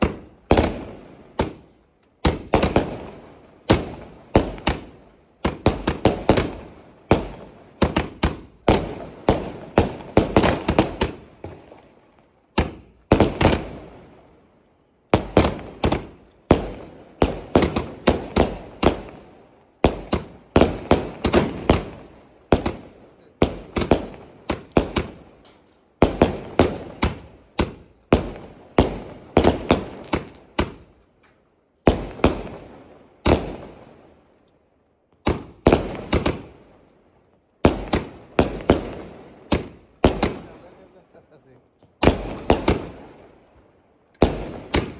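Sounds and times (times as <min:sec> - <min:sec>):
firework bangs: 0:00.0 - 0:31.0, 0:31.8 - 0:34.1, 0:35.2 - 0:36.9, 0:37.6 - 0:43.4, 0:44.2 - 0:44.9.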